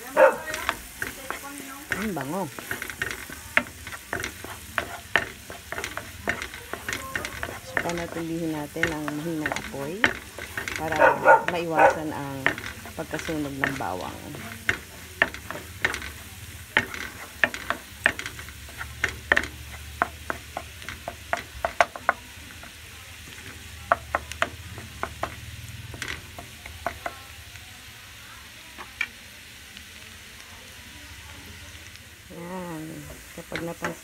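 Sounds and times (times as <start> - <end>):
wooden spatula clicking on pan: 0.0 - 27.6, 28.7 - 29.2, 32.8 - 34.0
garlic sizzling in butter: 0.0 - 34.0.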